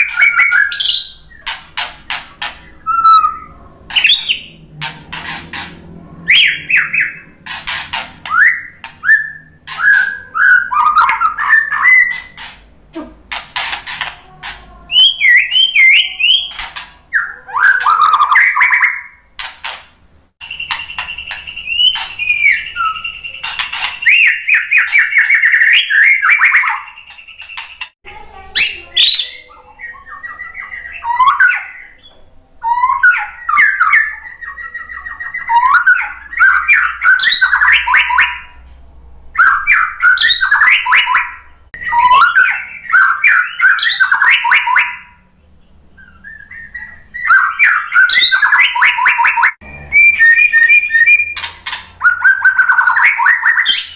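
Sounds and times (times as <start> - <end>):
bird singing whistles and trills: 0.0 - 1.6, 2.4 - 4.6, 6.3 - 12.5, 14.9 - 19.2, 20.4 - 28.0, 28.6 - 38.6, 39.4 - 45.2, 46.0 - 53.9.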